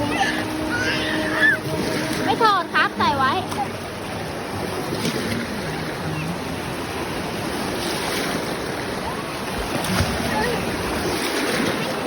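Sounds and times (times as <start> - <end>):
sea waves breaking on beach: 0.0 - 12.0.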